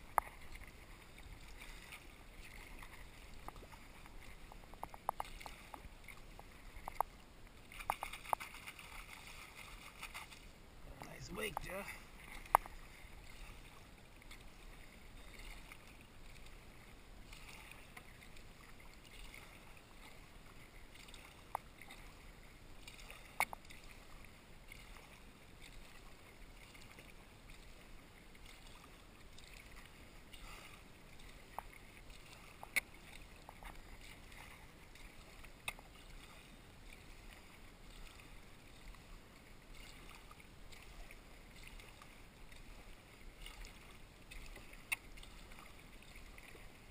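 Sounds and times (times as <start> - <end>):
paddle swishes in water: 0.0 - 46.9.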